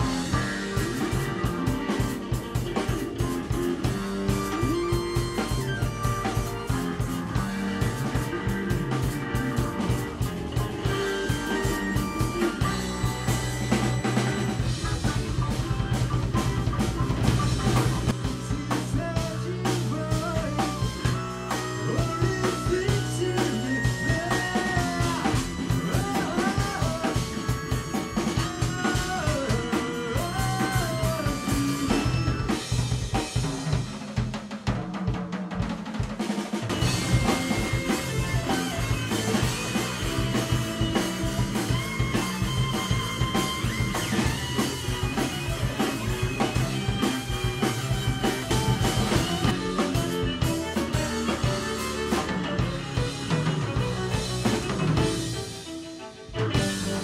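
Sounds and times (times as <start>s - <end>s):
electric violin: 0.0s - 34.5s, 36.2s - 57.0s
bass guitar: 0.0s - 57.0s
busy drum kit: 0.0s - 57.0s
keyboards: 0.0s - 57.0s.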